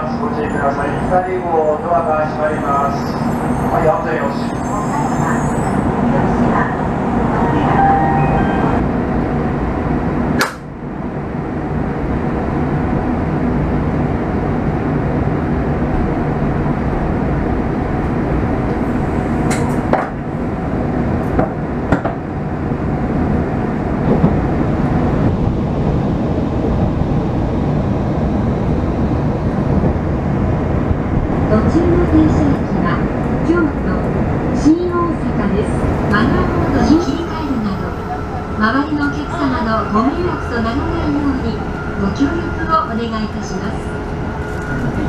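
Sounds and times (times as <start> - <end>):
train wheels and motors rumbling: 8.8 - 45.0.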